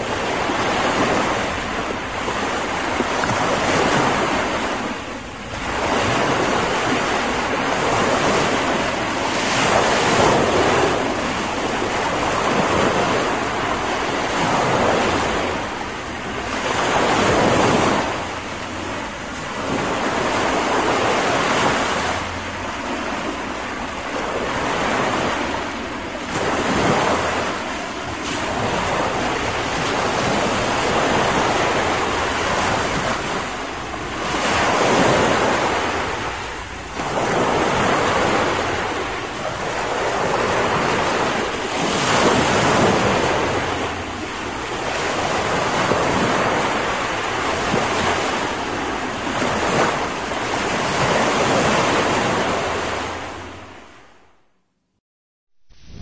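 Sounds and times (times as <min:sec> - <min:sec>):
ocean waves washing in: 0:00.0 - 0:54.5, 0:55.6 - 0:56.0.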